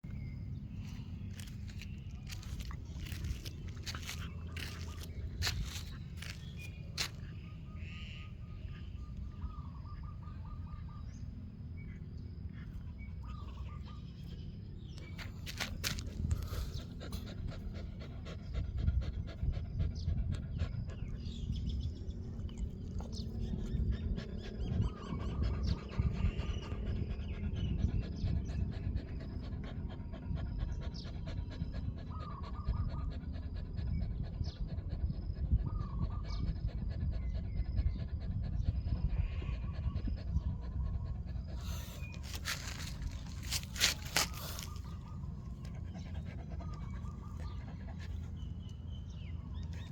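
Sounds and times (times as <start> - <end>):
dog panting: 0.8 - 7.6, 12.5 - 49.9.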